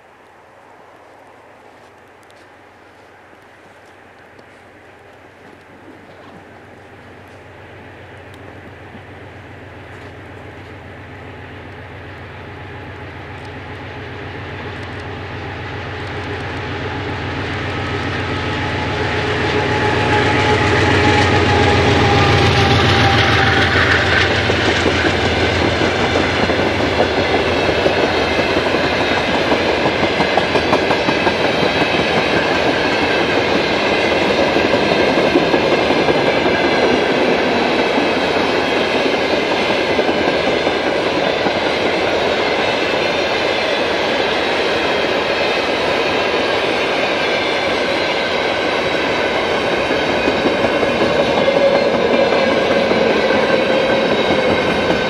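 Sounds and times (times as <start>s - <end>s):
diesel locomotive engine: 0.0s - 55.0s.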